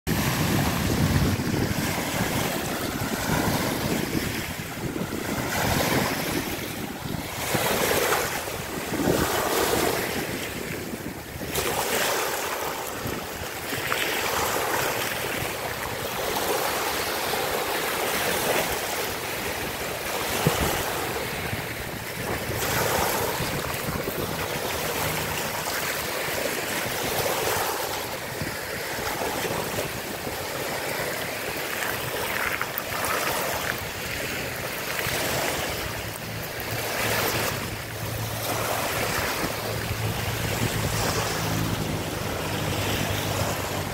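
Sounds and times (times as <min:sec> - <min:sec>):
small waves washing over sand: 0:00.1 - 0:43.9.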